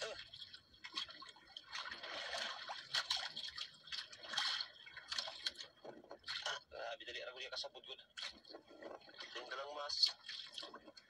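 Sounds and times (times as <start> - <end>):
water splashing against boat hull: 0.0 - 6.7, 8.2 - 11.0.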